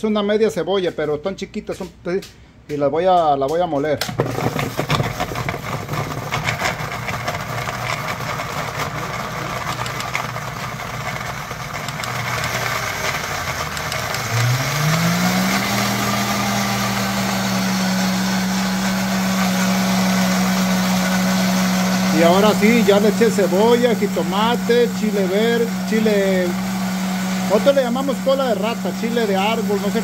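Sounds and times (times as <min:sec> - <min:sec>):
blender running: 0:04.1 - 0:30.0.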